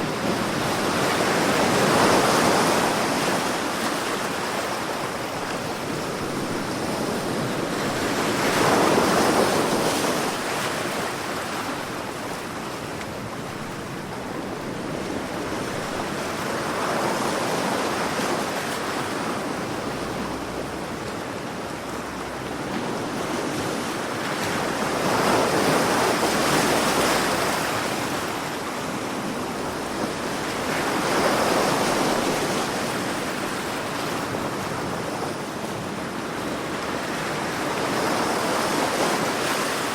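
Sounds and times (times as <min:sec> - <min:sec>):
sea waves surging: 0:00.0 - 0:39.9.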